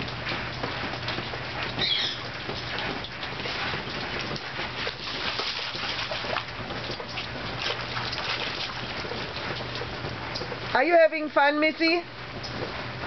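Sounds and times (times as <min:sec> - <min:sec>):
dog splashing in puddle: 0:00.0 - 0:10.6.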